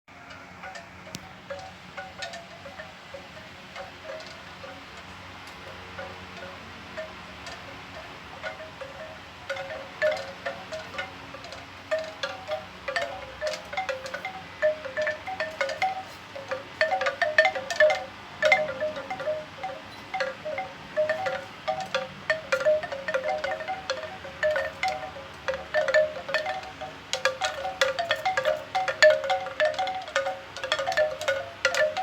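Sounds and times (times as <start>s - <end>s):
bamboo wind chime knocking: 5.6s - 32.0s.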